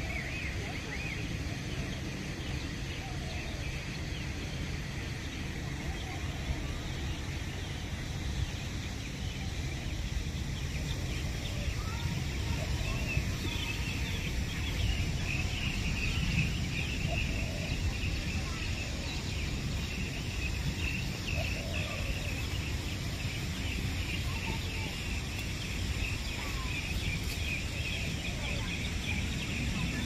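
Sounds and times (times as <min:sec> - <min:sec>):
low outdoor rumble: 0:00.0 - 0:30.0
small birds chirping: 0:00.0 - 0:30.0.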